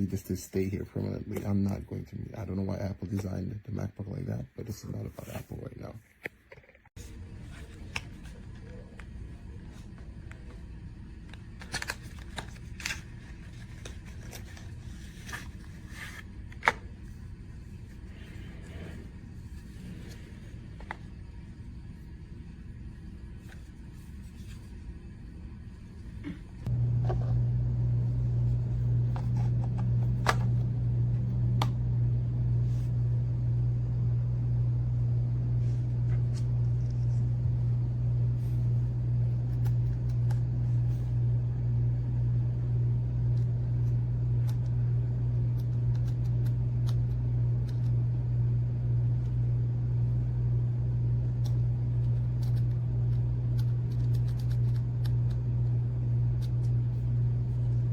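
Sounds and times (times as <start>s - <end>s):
low electrical hum: 0.0s - 57.9s.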